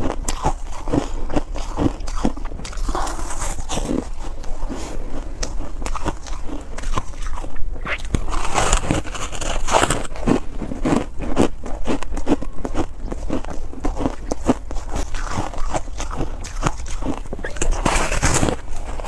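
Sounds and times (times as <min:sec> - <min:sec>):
crunchy chewing of foam ice: 0:00.0 - 0:19.0.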